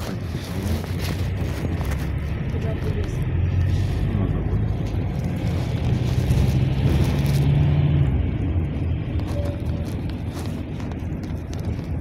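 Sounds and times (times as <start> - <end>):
minibus engine drone: 0.0 - 12.0
road noise inside vehicle: 0.0 - 12.0.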